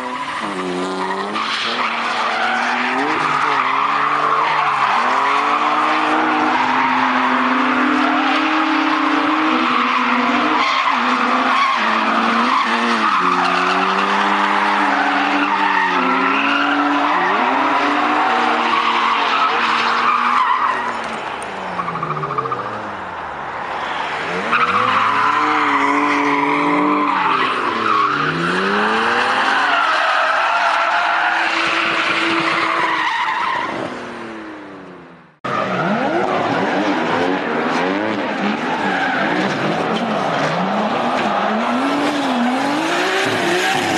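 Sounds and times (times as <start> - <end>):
car engines revving: 0.0 - 43.9.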